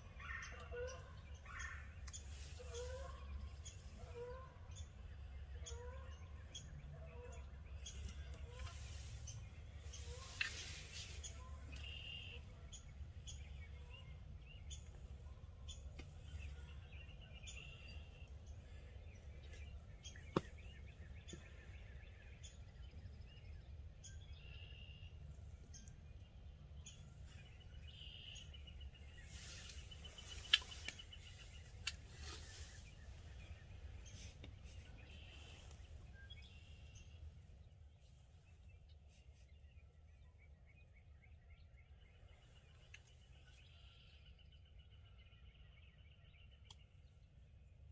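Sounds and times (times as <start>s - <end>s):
low background rumble: 0.0s - 47.9s
songbirds chirping and trilling: 0.0s - 47.9s.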